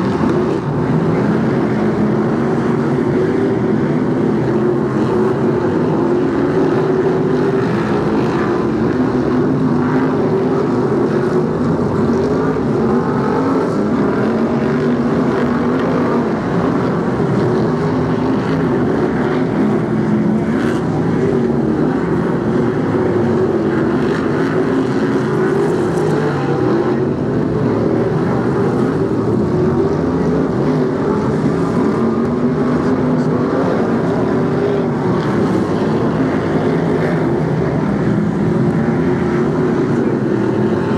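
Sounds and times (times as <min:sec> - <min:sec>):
racing car engines: 0:00.0 - 0:40.9.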